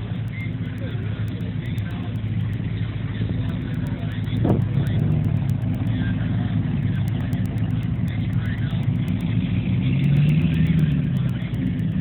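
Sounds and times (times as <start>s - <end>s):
car engine idling: 0.0s - 12.0s
engine revving: 0.0s - 12.0s.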